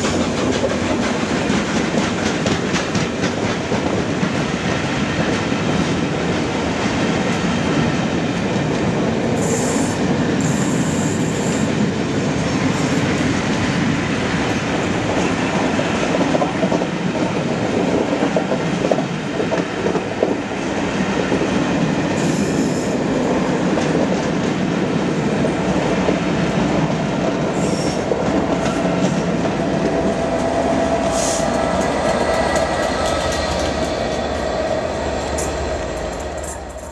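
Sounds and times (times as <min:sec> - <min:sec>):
train rumble and wheel clatter: 0:00.0 - 0:36.9.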